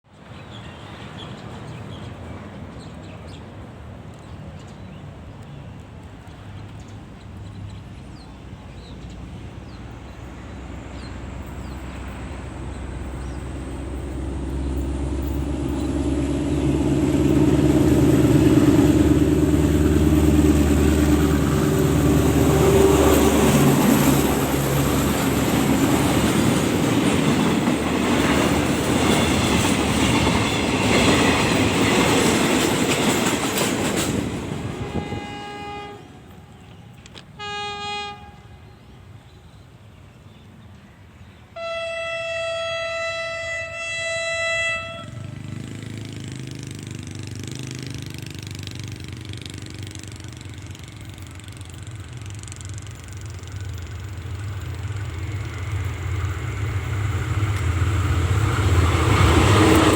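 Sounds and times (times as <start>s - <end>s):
diesel train passing: 0.1s - 59.9s.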